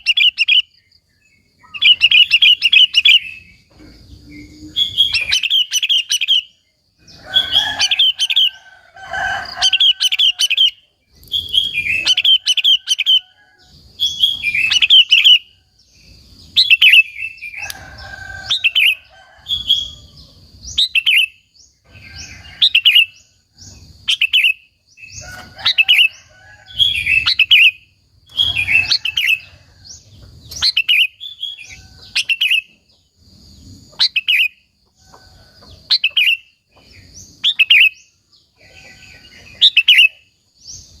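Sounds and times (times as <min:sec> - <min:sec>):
bird singing warbling phrases: 0:00.0 - 0:33.0, 0:33.6 - 0:34.7, 0:35.6 - 0:41.0.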